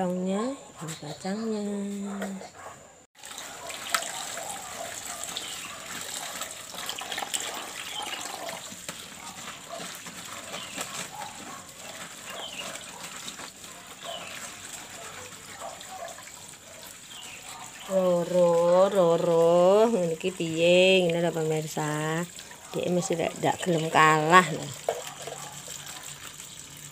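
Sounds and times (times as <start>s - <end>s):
water sloshing and splashing: 3.2s - 26.9s.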